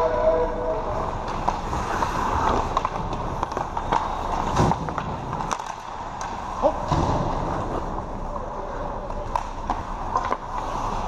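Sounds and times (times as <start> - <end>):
skates scraping on ice: 0.0 - 11.0
hockey sticks and puck clacking: 0.9 - 11.0.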